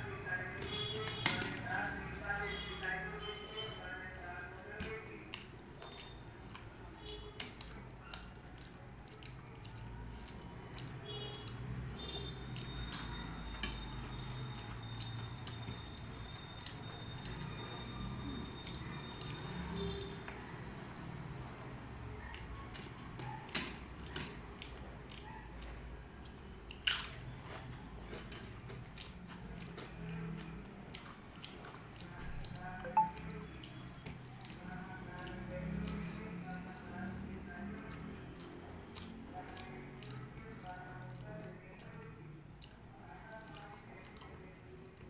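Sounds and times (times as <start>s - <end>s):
wet chewing of food: 0.0s - 45.0s.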